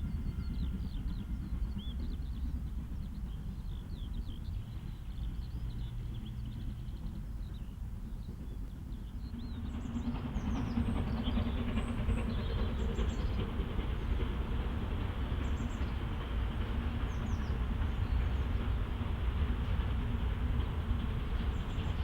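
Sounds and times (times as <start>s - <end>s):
steam train rumbling past: 0.0s - 22.0s.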